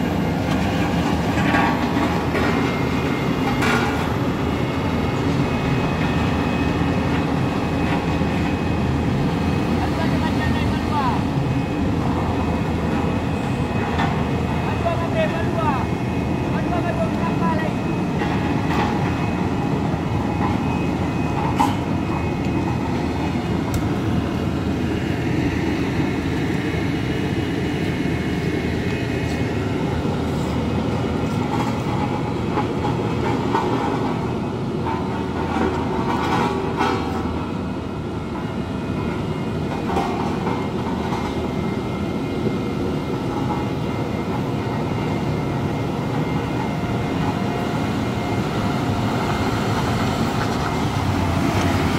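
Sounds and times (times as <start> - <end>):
diesel engines rumbling: 0.0 - 51.9.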